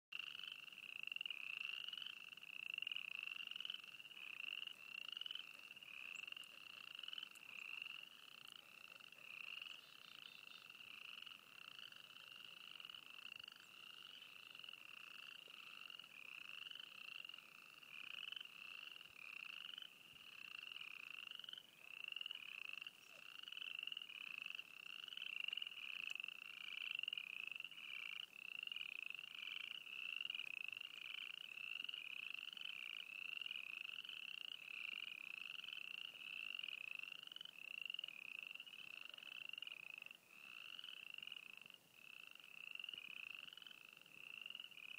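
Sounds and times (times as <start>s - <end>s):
faint chorus of frogs: 0.1s - 44.9s.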